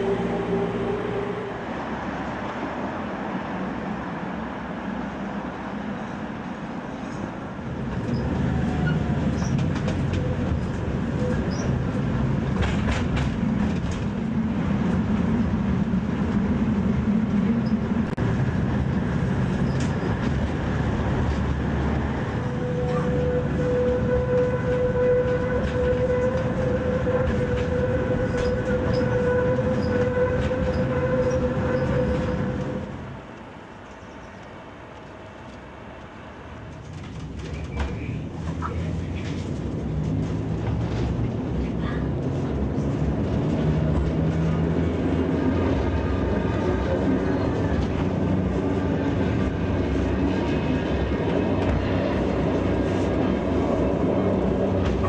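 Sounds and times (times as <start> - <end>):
tram wheels rumbling on rails: 0.0 - 55.0
wheels clacking on rails: 6.4 - 55.0.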